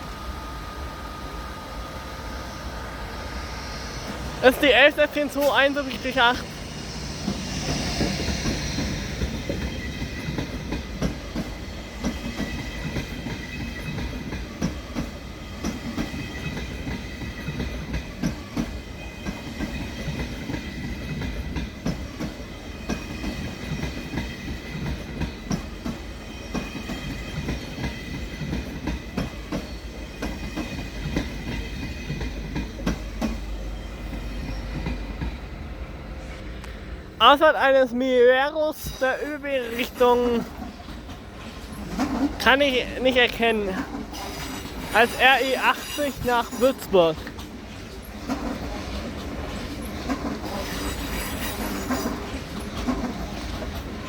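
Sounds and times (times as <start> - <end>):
low train rumble: 0.0 - 54.0
train wheels clacking on rails: 3.4 - 36.8, 38.4 - 54.0.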